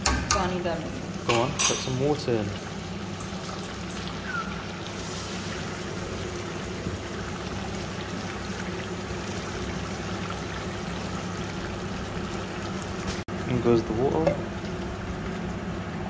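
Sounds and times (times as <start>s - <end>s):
pot bubbling and hissing: 0.0s - 16.0s.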